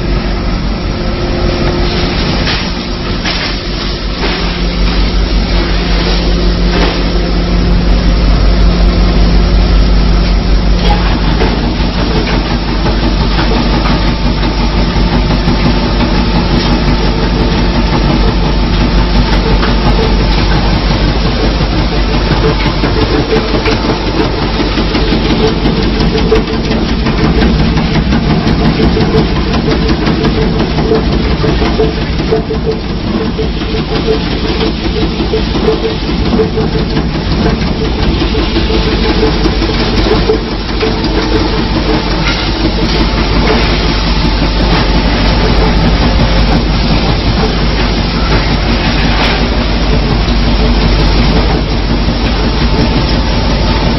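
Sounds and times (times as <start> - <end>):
machine mechanical hum: 0.0 - 53.9.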